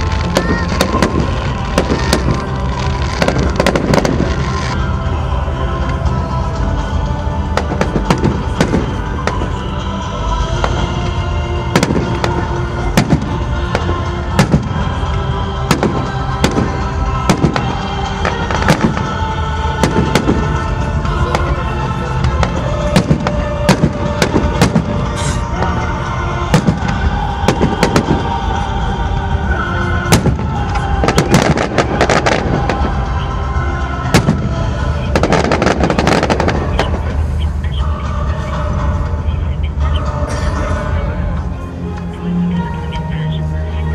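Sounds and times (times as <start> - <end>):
fireworks bursting: 0.0 - 5.2, 6.9 - 28.9, 29.5 - 37.8
music playing: 0.0 - 43.9.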